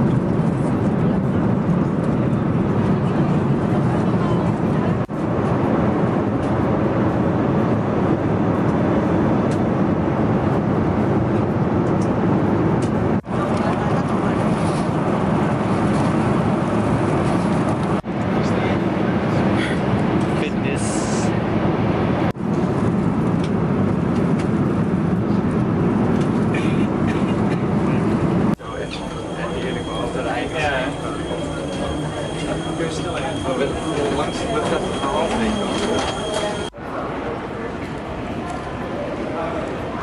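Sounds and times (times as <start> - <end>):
jet airliner cabin noise: 0.0 - 40.0.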